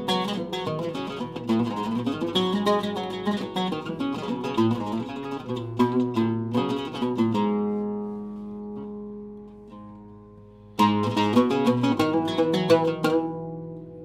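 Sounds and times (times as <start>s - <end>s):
oud plucked notes: 0.0s - 14.0s.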